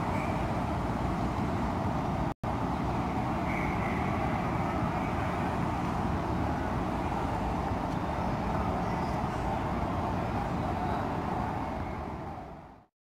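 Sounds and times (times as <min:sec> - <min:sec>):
low city rumble: 0:00.0 - 0:12.9.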